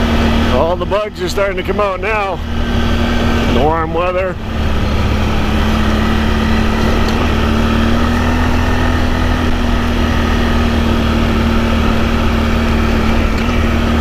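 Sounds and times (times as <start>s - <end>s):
atv engine droning: 0.0s - 14.0s.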